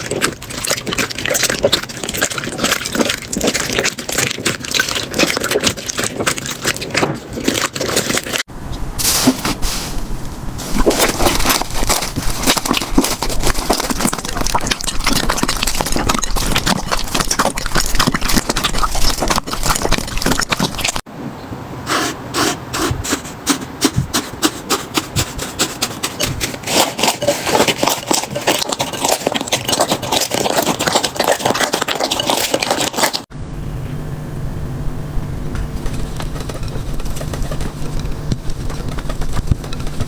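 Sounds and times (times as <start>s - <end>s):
sticky rubbing: 0.0s - 21.0s, 21.9s - 33.3s, 35.6s - 40.0s.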